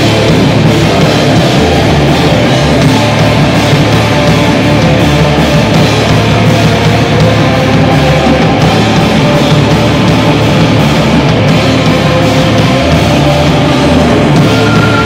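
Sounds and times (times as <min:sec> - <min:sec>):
drum kit with cymbals: 0:00.0 - 0:15.0
electric bass: 0:00.0 - 0:15.0
rock band playing live: 0:00.0 - 0:15.0.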